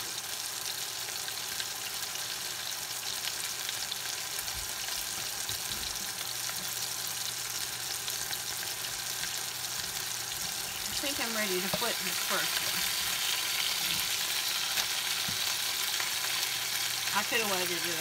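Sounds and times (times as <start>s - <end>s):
meat sizzling in a skillet: 0.0s - 18.0s.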